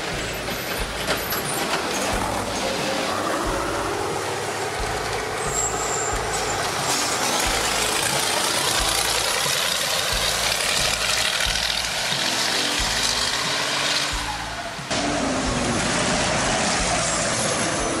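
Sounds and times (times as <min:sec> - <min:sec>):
diesel truck engine under load: 0:00.0 - 0:18.0
tyres churning dirt and gravel: 0:00.0 - 0:18.0.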